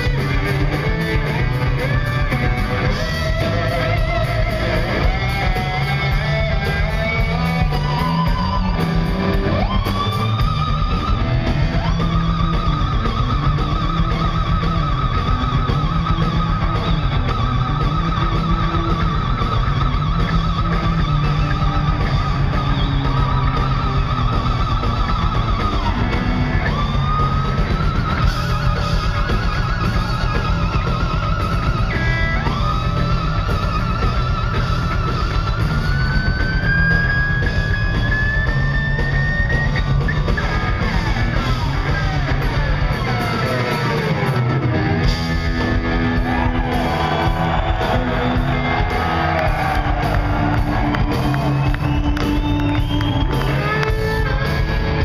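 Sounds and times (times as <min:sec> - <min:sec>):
bass guitar: 0:00.0 - 0:55.0
drums: 0:00.0 - 0:55.0
electric guitar solo: 0:00.0 - 0:55.0.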